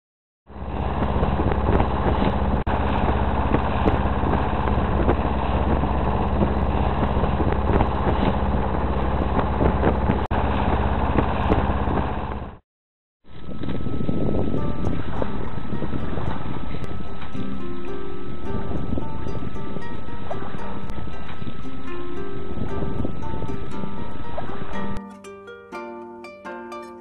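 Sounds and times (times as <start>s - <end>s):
boat engine droning: 0.5s - 12.6s, 13.3s - 25.0s.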